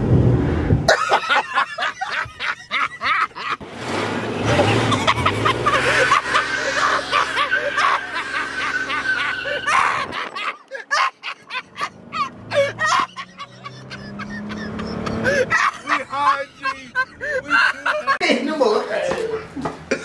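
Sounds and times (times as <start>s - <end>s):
people laughing: 0.9s - 3.6s, 4.3s - 20.0s.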